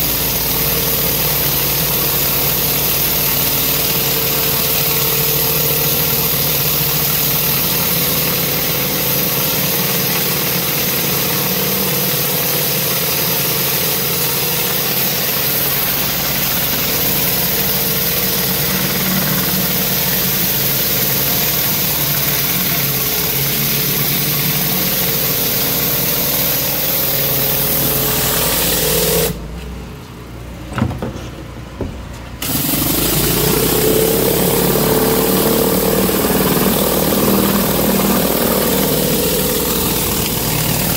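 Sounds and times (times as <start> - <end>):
pressure washer spray hiss: 0.0 - 29.4, 32.4 - 40.9
pressure washer motor: 0.0 - 29.7, 32.4 - 40.9.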